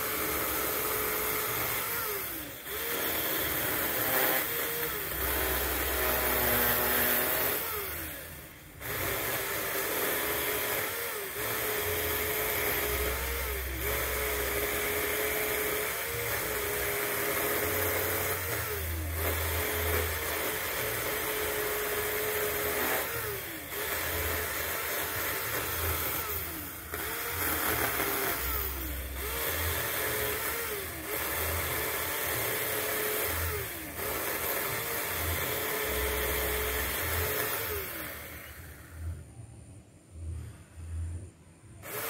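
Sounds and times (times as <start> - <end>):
chainsaw cutting wood: 0.0 - 39.2, 41.8 - 42.0.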